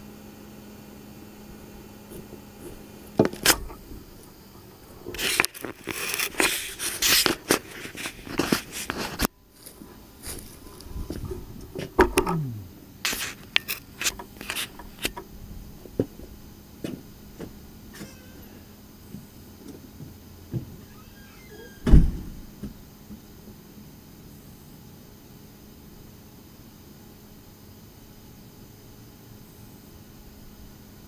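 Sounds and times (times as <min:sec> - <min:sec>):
electric motor whine: 0:00.4 - 0:28.7.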